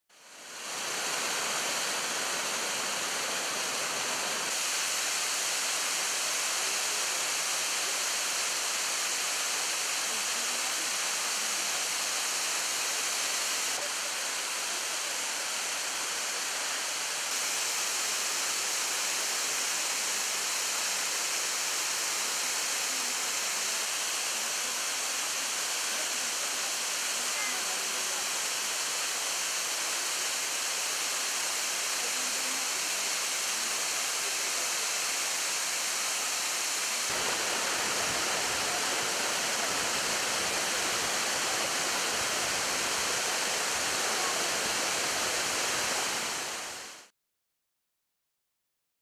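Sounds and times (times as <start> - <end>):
waterfall rushing: 0.2 - 47.1.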